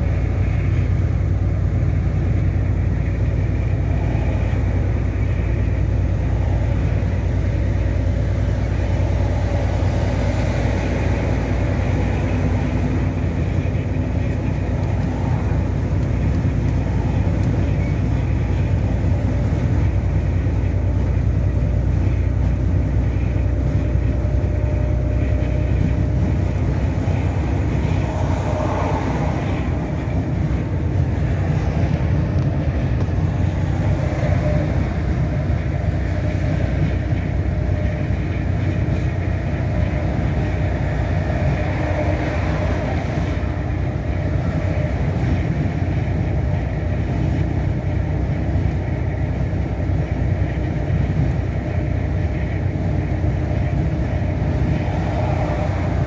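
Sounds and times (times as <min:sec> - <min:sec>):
lorry engine and tyres droning: 0:00.0 - 0:56.0.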